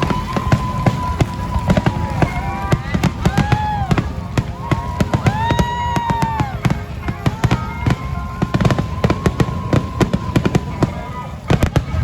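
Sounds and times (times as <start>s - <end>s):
fireworks crackling and banging: 0.0s - 12.0s
fireworks whistling: 0.0s - 12.0s.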